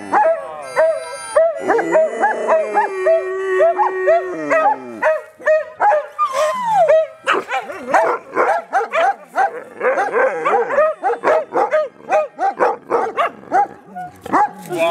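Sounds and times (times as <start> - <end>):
dog howling: 0.0 - 14.8
dogs barking and yelping: 0.0 - 14.9.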